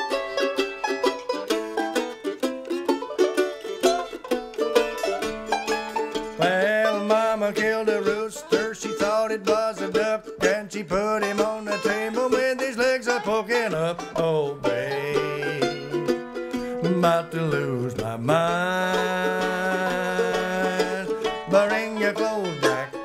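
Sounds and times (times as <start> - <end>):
banjo and mandolin bluegrass: 0.0 - 23.0.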